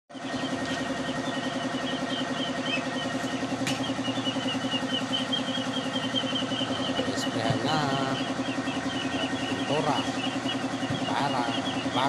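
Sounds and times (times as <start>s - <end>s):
engine running steadily: 0.1s - 12.0s.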